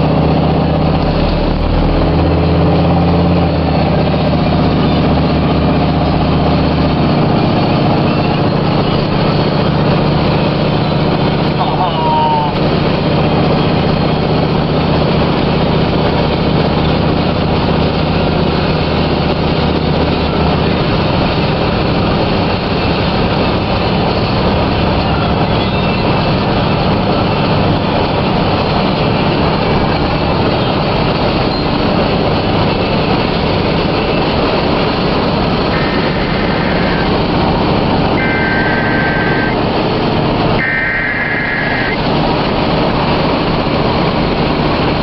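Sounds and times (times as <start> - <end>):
low engine hum: 0.0 - 45.0
road noise inside car: 0.0 - 45.0.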